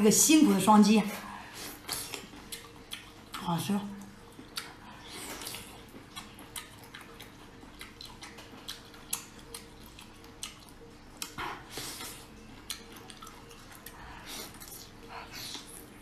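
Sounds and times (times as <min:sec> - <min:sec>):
wet clicks of chewing: 0:01.8 - 0:16.0.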